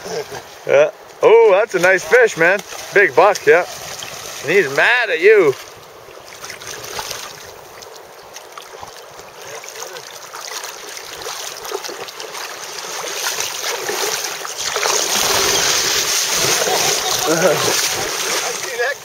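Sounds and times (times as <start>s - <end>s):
river water rushing and lapping: 0.0s - 19.0s.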